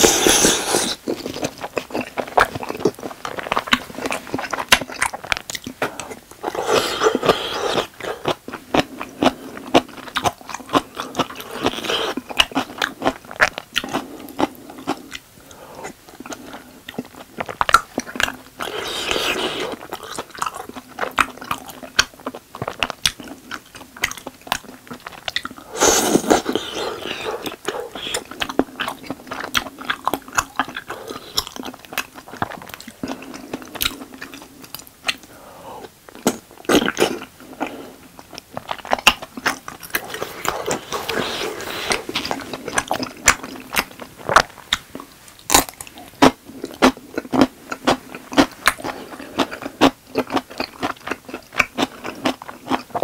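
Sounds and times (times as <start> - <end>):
chewing with wet mouth clicks: 1.0 - 53.0.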